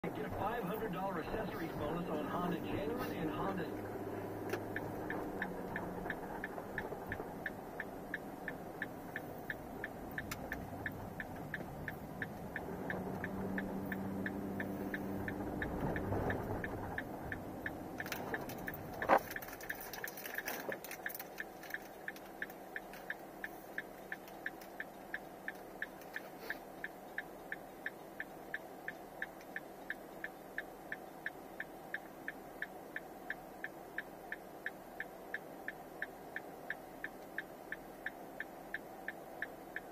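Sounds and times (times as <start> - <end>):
car engine and road noise: 0.0 - 39.9
steady ticking: 0.0 - 39.9.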